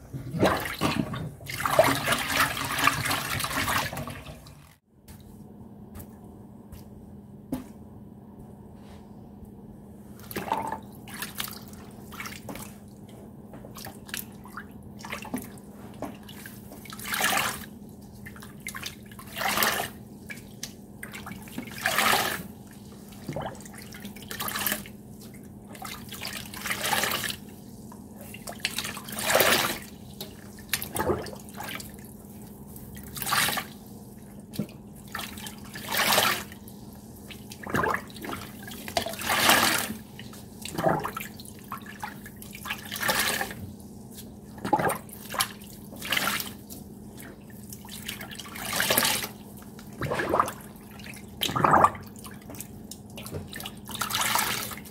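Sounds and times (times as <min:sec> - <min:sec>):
wet sponges squelching: 0:10.1 - 0:54.9.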